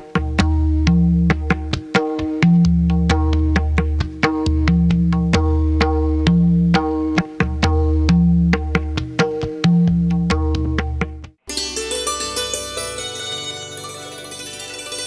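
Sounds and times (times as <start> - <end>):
long held bass notes: 0.0 - 15.0.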